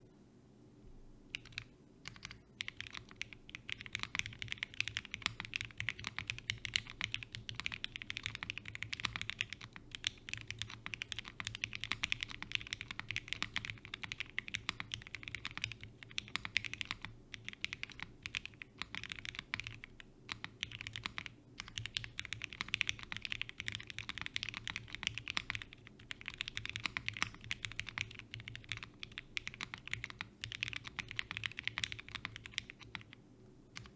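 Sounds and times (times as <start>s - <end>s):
fast typing on mechanical keyboard: 1.3s - 33.2s.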